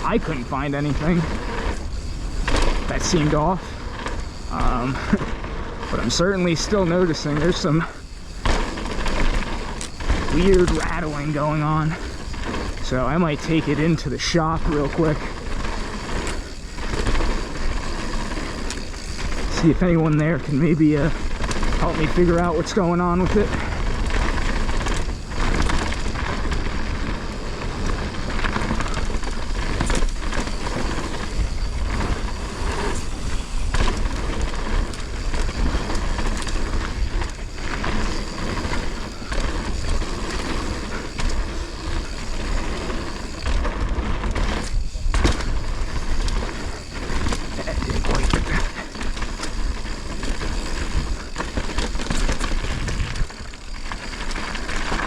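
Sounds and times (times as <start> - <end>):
wind buffeting microphone: 0.0 - 54.4
bike clattering over bumps: 0.0 - 55.0
bike rattle: 0.0 - 55.0
tyres on dirt: 0.0 - 55.0.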